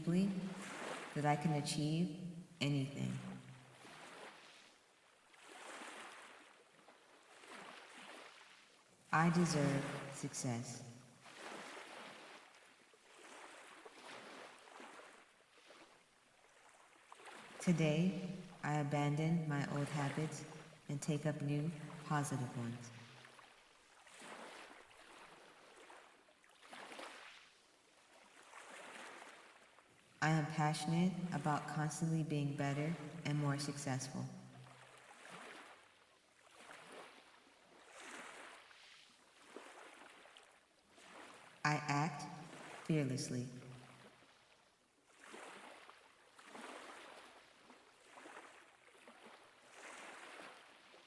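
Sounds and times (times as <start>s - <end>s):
faint ocean waves: 0.0s - 51.0s.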